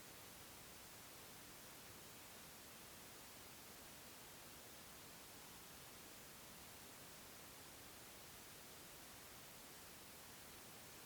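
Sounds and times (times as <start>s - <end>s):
faint white noise hiss: 0.0s - 11.0s.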